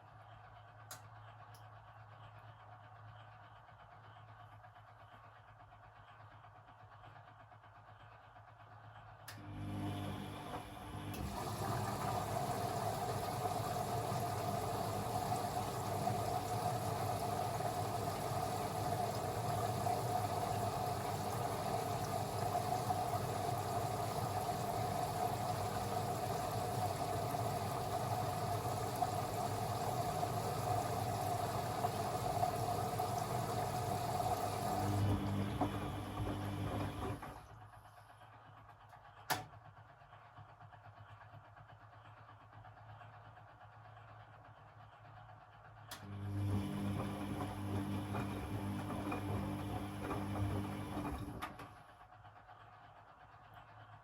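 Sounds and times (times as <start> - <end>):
washing machine running: 8.3 - 39.4, 40.0 - 52.7.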